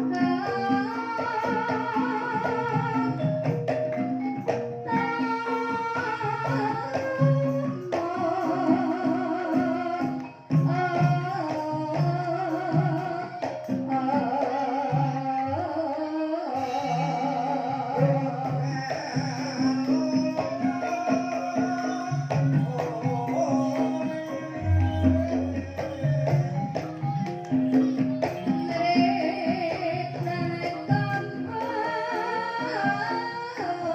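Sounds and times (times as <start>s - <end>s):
person singing with vibrato: 0.0s - 3.8s, 4.9s - 33.9s
gamelan ensemble playing: 0.0s - 15.3s, 16.6s - 33.9s.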